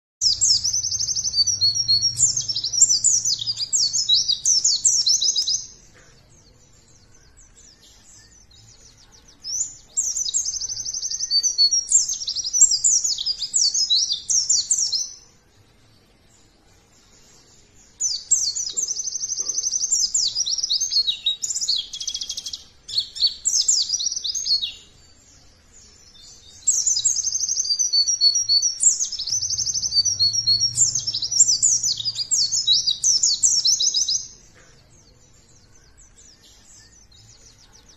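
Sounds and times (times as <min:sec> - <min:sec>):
high-pitched bird twittering song: 0:00.2 - 0:37.9.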